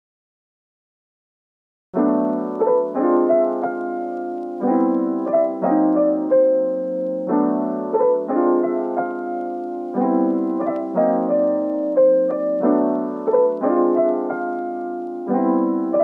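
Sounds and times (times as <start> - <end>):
background piano music: 2.0 - 16.0.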